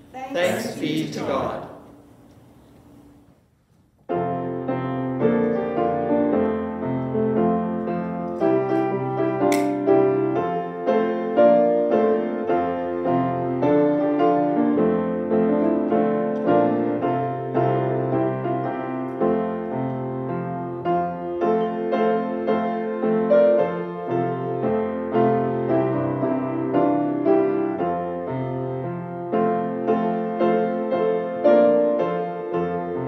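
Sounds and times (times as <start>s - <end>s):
piano chords: 4.1s - 33.0s.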